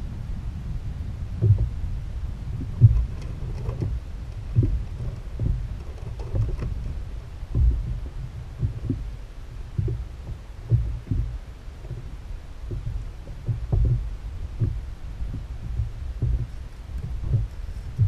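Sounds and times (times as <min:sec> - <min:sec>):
low rumble: 0:00.0 - 0:18.0
waves thumping kayak hull: 0:00.0 - 0:18.0.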